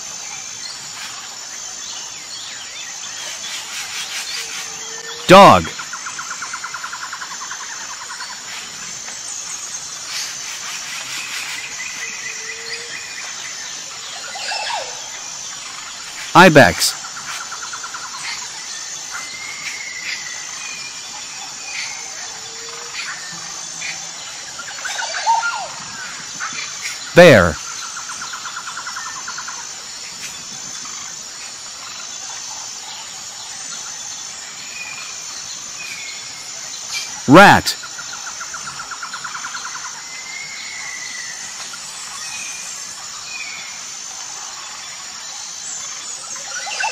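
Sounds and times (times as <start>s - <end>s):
steady outdoor hiss: 0.0s - 46.9s.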